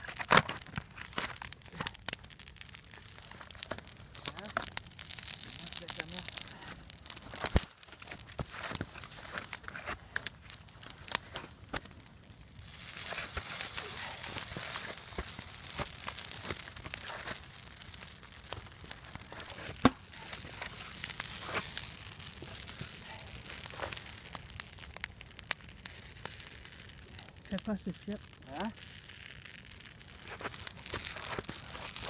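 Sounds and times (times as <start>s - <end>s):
campfire crackling and popping: 0.0s - 32.0s
high hiss of fire: 2.8s - 32.0s.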